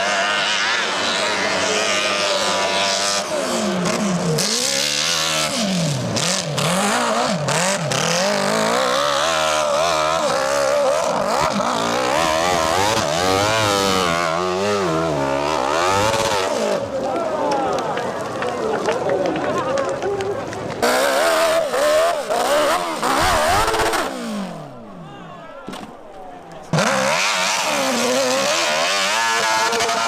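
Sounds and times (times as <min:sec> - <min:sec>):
motorcycle engine revving hard: 0:00.0 - 0:16.9, 0:20.8 - 0:25.0, 0:26.7 - 0:30.0.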